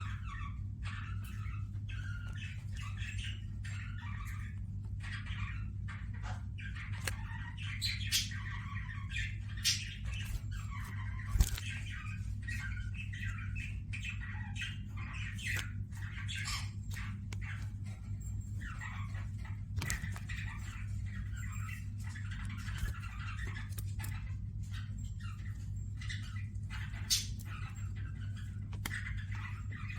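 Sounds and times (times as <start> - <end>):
finches and budgerigars chirping: 0.0 - 29.9
steady low hum: 0.0 - 29.9.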